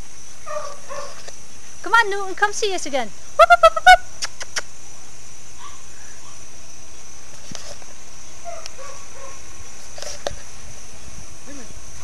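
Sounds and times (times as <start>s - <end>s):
high-pitched insect buzz: 0.0s - 12.0s.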